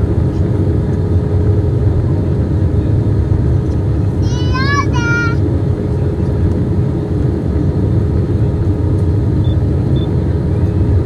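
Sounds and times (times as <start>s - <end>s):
jet engine and airflow rumble: 0.0s - 11.0s
steady hum: 0.0s - 11.0s.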